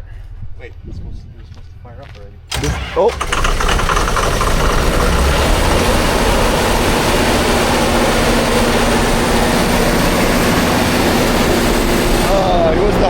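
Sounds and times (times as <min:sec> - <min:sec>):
engine running at high idle: 0:02.5 - 0:13.0.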